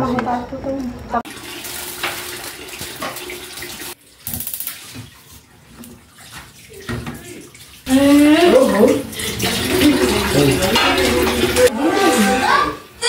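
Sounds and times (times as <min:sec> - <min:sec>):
tap water running and splashing: 0:01.2 - 0:11.7.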